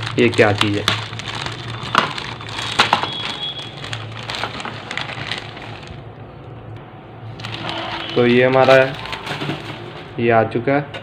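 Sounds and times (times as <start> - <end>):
plastic bag crinkling: 0.0 - 6.3, 7.3 - 10.1.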